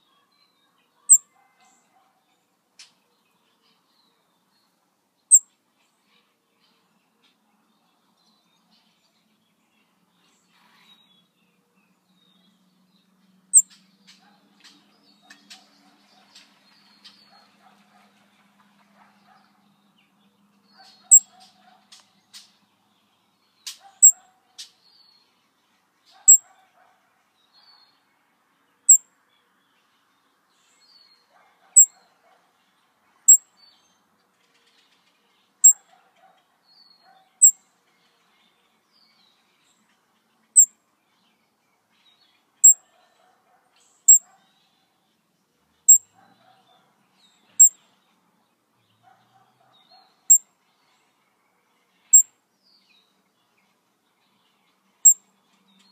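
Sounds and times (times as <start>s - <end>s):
faint bird chirps and twitters: 0.0s - 22.8s, 23.4s - 25.4s, 26.1s - 28.0s, 30.6s - 32.4s, 33.2s - 44.9s, 45.7s - 48.2s, 49.0s - 51.3s, 51.9s - 55.9s.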